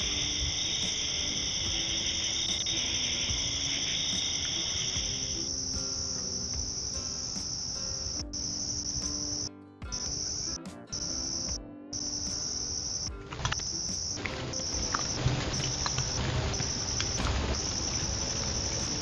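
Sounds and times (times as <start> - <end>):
insects trilling: 0.0 - 9.4, 11.3 - 19.0.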